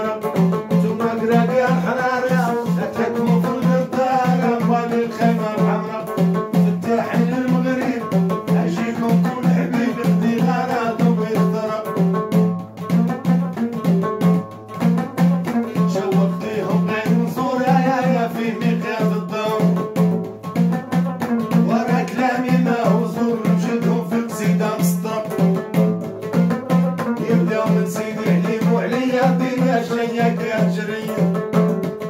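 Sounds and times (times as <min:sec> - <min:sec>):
man singing: 0:00.0 - 0:12.4, 0:15.4 - 0:20.2, 0:21.4 - 0:25.9, 0:27.0 - 0:31.7
plucked lute: 0:00.0 - 0:32.0.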